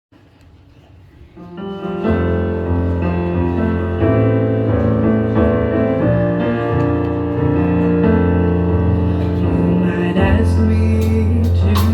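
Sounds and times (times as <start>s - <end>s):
slow piano music: 1.4s - 11.9s.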